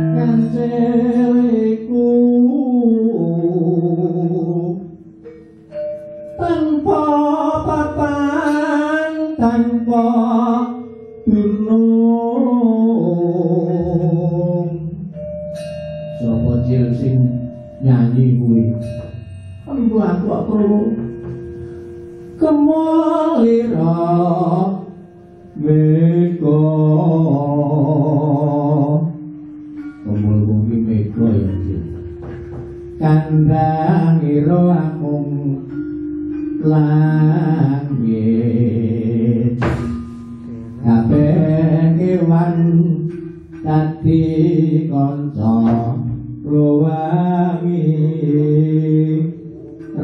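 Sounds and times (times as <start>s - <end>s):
person singing long notes: 0.0s - 15.2s, 16.2s - 29.4s, 30.0s - 50.0s
gamelan music: 0.0s - 50.0s.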